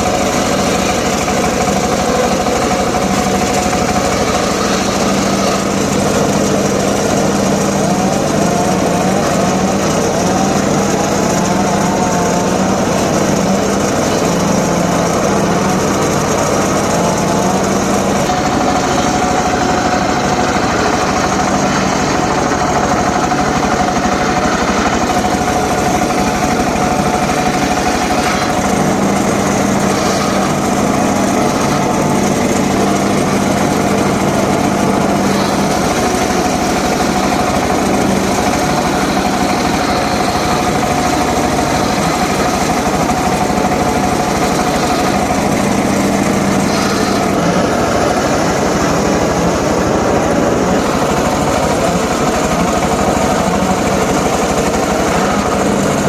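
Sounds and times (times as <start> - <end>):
engine-driven circular saw running: 0.0 - 56.0
steady whine: 0.0 - 56.0.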